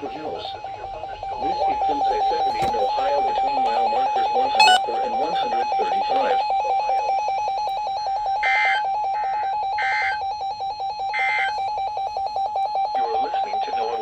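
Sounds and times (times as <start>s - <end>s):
two-tone digital warbling: 0.0s - 11.8s.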